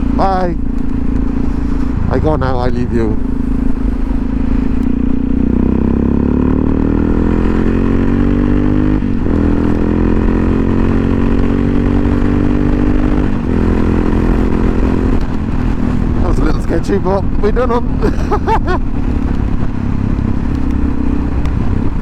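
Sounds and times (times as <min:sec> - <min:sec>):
motorcycle engine accelerating: 0:00.0 - 0:22.0
wind noise on microphone: 0:00.0 - 0:22.0.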